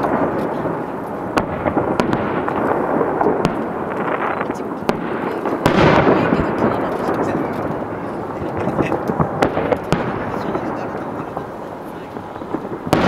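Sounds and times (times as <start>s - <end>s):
fireworks booming: 0.0s - 13.0s
fireworks sharp cracks: 0.0s - 13.0s.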